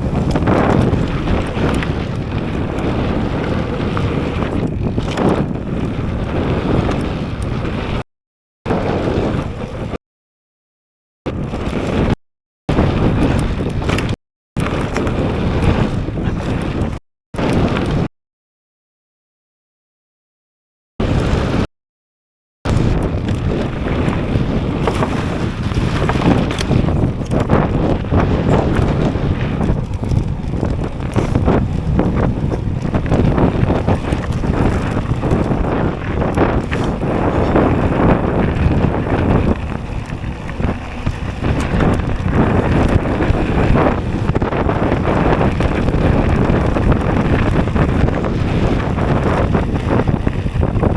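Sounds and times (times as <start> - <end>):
wind buffeting microphone: 0.0 - 8.0, 8.7 - 10.0, 11.3 - 18.1, 21.0 - 21.7, 22.7 - 50.9.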